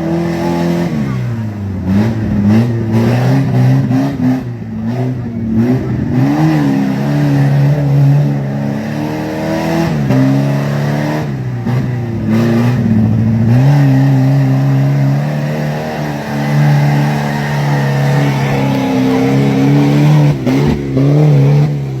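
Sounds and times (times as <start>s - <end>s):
vehicle engine running under load: 0.0s - 22.0s.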